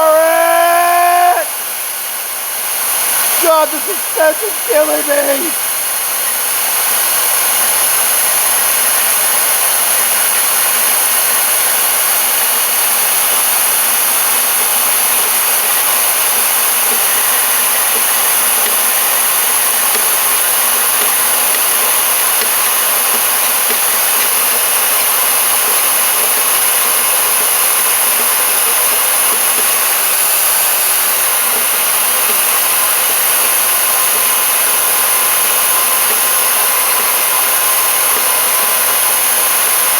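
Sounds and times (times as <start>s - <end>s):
bandsaw cutting metal: 0.0s - 39.9s.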